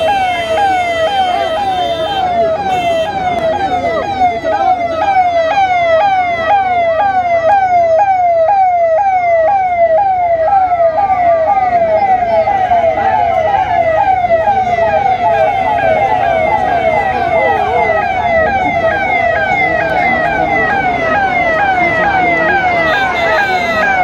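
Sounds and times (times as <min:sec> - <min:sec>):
electronic siren wailing: 0:00.0 - 0:24.0.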